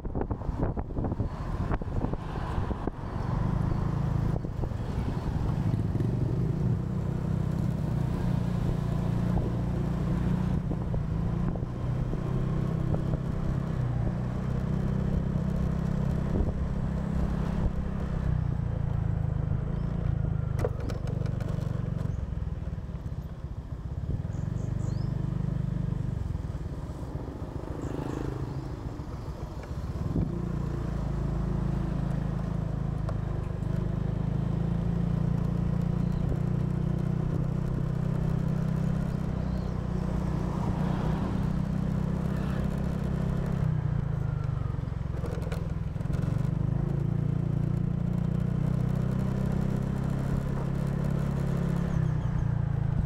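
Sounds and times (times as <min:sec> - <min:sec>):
motor scooter engine running: 0:03.4 - 0:53.0.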